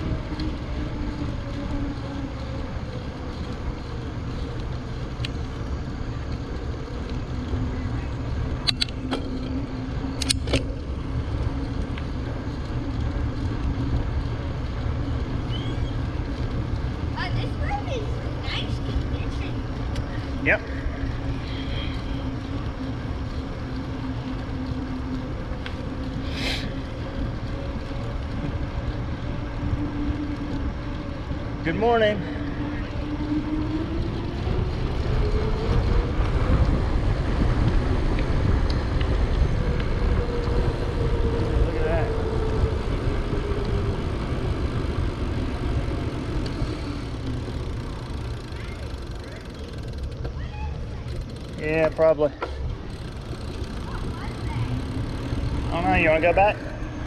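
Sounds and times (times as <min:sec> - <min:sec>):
bicycle rumble on paved road: 0:00.0 - 0:57.0
wind buffeting microphone: 0:00.0 - 0:57.0.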